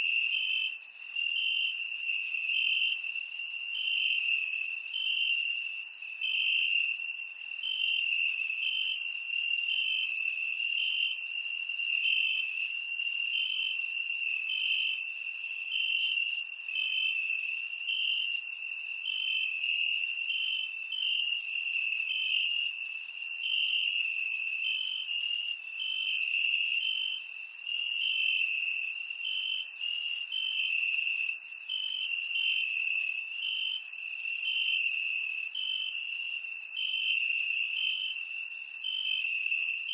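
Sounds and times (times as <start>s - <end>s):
cricket chirps: 0.0s - 39.9s.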